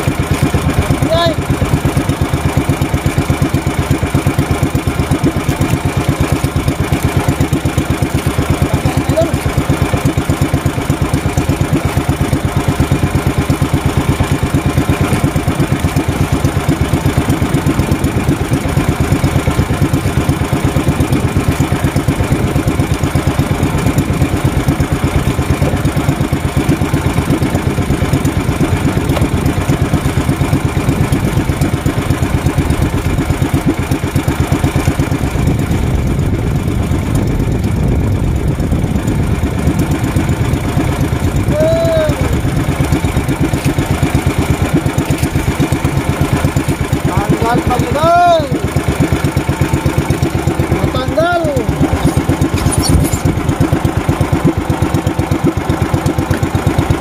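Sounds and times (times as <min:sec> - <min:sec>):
boat engine puttering: 0:00.0 - 0:57.0.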